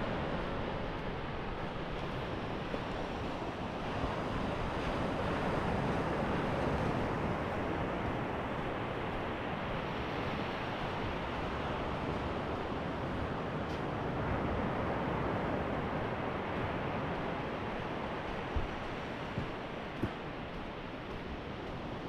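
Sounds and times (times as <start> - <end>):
sea surf washing on shore: 0.0 - 22.0
wind buffeting microphone: 0.0 - 22.0.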